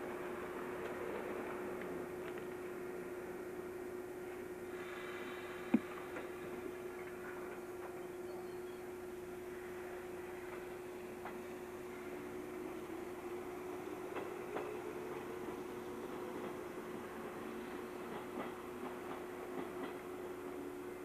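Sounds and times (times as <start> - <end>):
electric train motor whine: 0.0 - 18.1.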